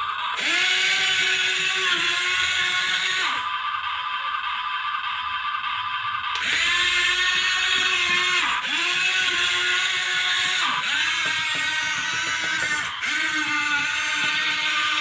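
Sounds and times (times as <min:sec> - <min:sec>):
electric motor whine: 0:00.0 - 0:04.5, 0:06.0 - 0:15.0.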